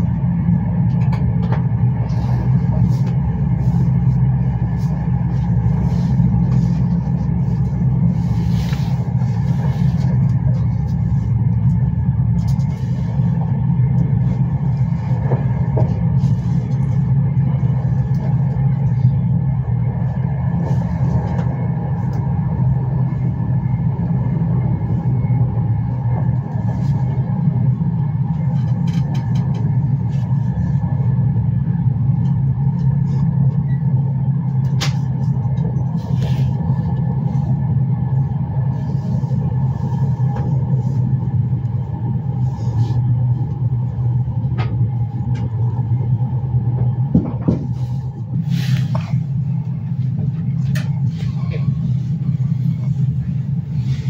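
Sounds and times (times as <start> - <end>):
train rumble on track: 0.0 - 54.0.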